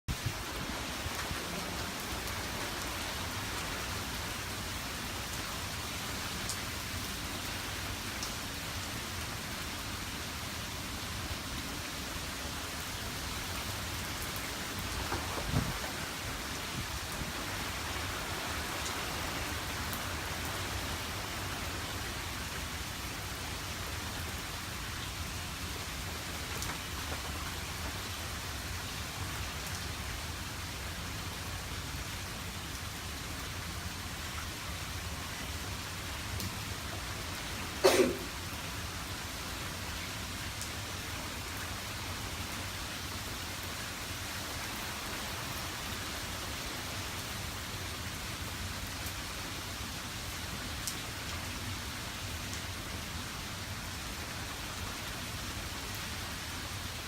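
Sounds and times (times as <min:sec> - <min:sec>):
heavy rain pouring: 0:00.1 - 0:57.0.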